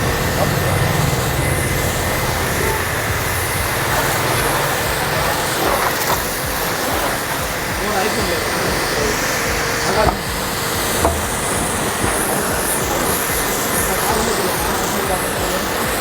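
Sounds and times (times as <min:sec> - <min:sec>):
pressure washer spray hissing: 0:00.0 - 0:16.0
washer motor hum: 0:00.0 - 0:16.0.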